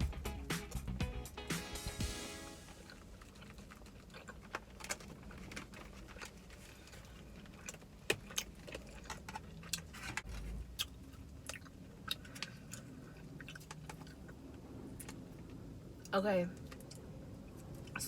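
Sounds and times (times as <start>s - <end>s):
chewing and lip smacking: 3.0s - 18.0s.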